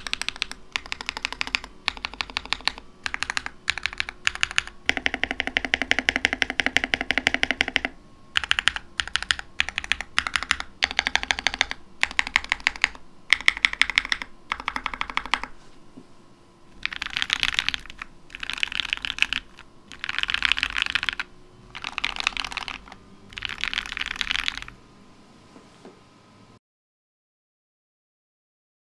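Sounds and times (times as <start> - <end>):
mechanical keyboard typing: 0.0 - 15.5, 16.8 - 24.8.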